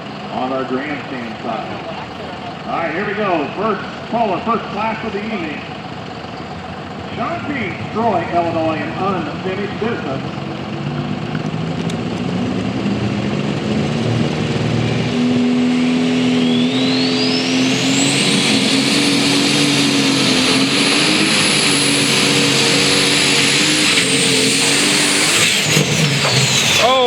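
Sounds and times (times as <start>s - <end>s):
diesel engine drone: 0.0s - 27.0s
turbo whine: 0.0s - 27.0s.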